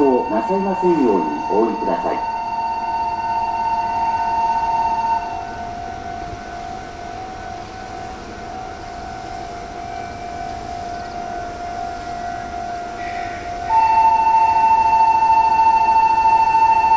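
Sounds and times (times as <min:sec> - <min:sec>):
high-pitched crossing alarm: 0:00.0 - 0:16.9
low-pitched crossing alarm: 0:00.0 - 0:16.9.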